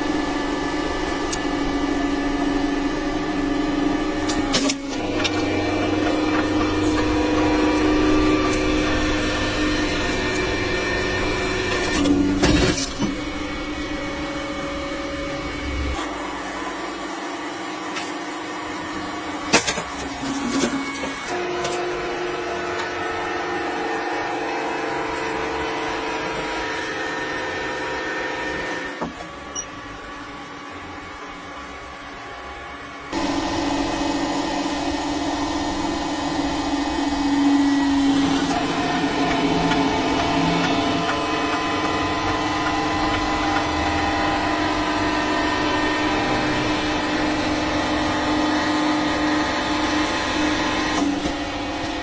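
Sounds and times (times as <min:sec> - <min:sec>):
hydraulic press humming: 0:00.0 - 0:52.0.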